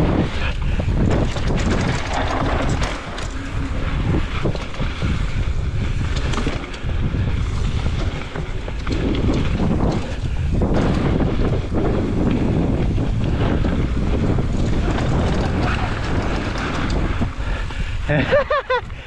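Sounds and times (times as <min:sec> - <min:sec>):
bike rattles and knocks: 0:00.0 - 0:19.0
tyre noise on dirt: 0:00.0 - 0:19.0
wind buffeting microphone: 0:00.0 - 0:19.0.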